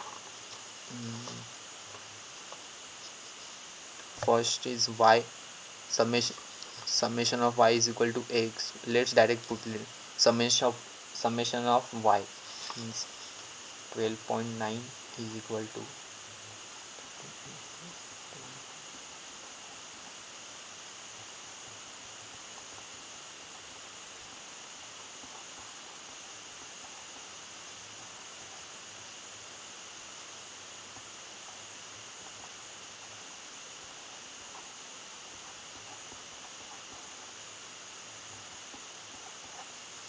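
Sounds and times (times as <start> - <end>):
background recording hiss: 0.0 - 40.0.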